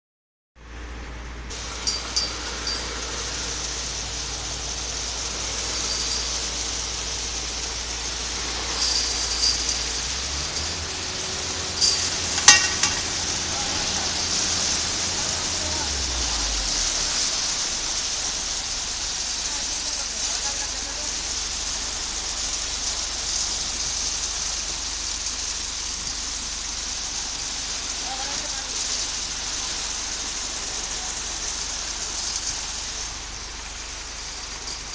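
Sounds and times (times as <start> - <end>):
concrete mixer churning: 1.5 - 34.9.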